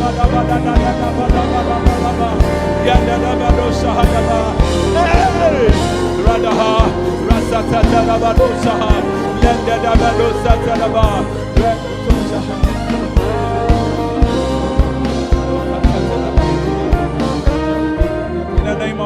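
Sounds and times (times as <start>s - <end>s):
church worship music: 0.0s - 19.0s.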